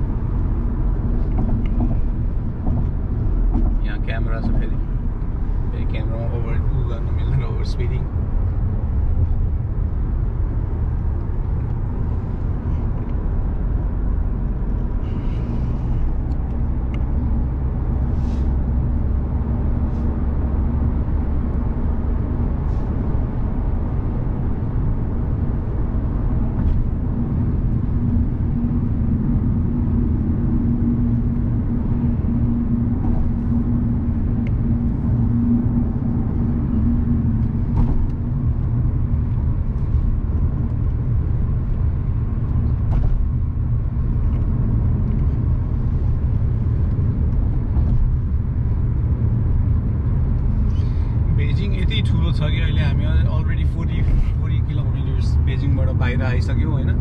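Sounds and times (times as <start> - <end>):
car cabin road and engine noise: 0.0 - 57.0
low droning hum: 0.0 - 57.0.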